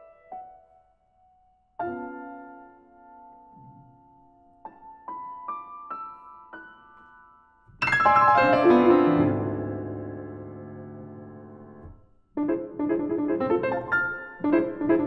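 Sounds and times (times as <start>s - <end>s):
grand piano playing: 1.8s - 15.0s.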